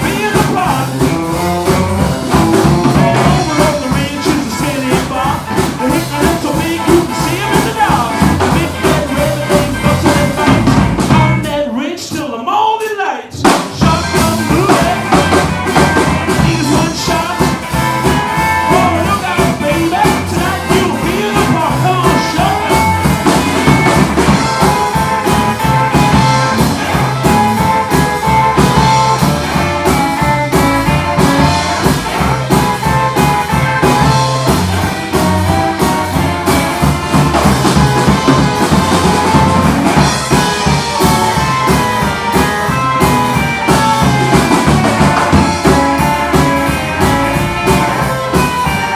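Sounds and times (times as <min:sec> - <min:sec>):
rock and roll band playing: 0:00.0 - 0:48.9.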